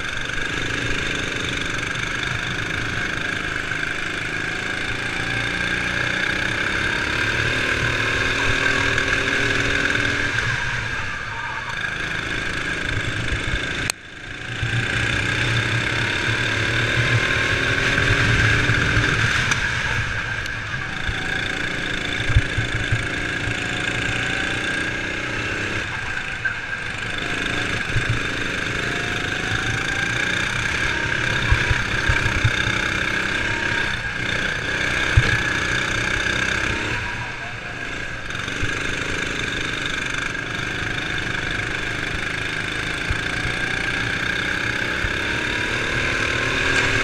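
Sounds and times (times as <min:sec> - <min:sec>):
kart engine racing: 0:00.0 - 0:47.0.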